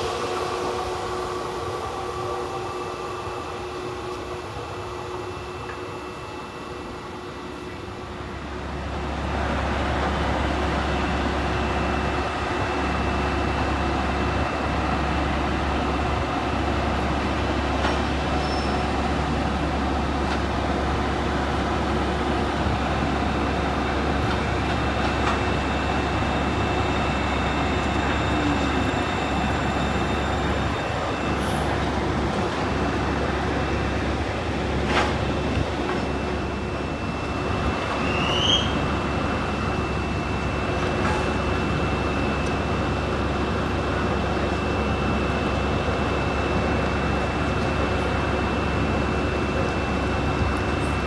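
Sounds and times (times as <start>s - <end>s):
train rumbling past: 0.0s - 51.0s.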